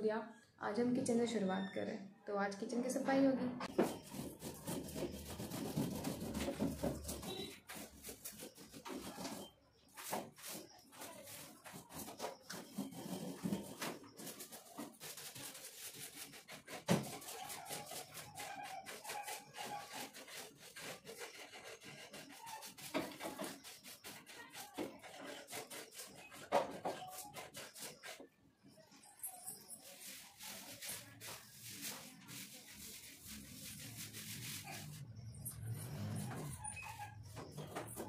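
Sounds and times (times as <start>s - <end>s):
cloth rubbing a refrigerator: 3.7s - 28.3s, 28.9s - 38.0s.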